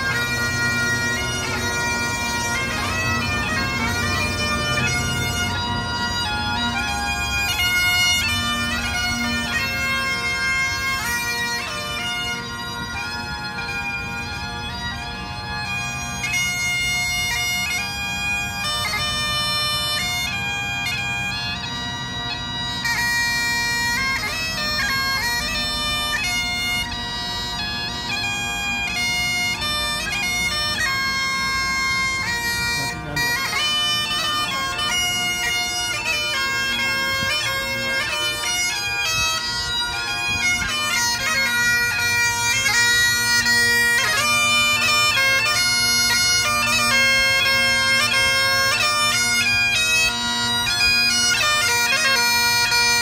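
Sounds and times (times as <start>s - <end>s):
bagpipes playing: 0.0s - 53.0s.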